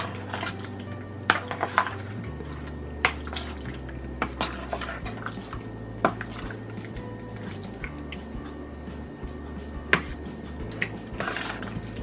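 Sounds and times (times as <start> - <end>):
spoon stirring wet food: 0.0 - 12.0.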